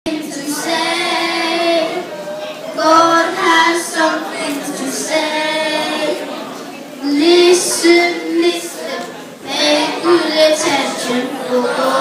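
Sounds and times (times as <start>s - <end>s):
children singing: 0.1s - 6.4s, 7.0s - 12.0s.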